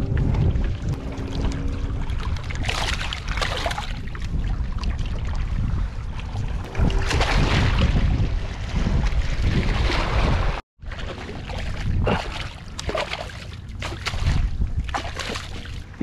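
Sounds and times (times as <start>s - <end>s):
wind on microphone: 0.0s - 10.6s, 11.6s - 12.5s, 14.0s - 16.0s.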